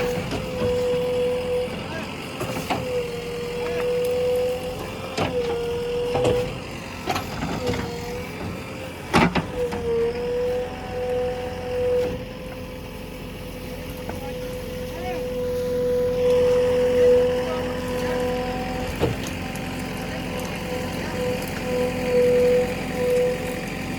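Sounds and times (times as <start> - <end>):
backhoe loader engine whining: 0.0 - 23.9.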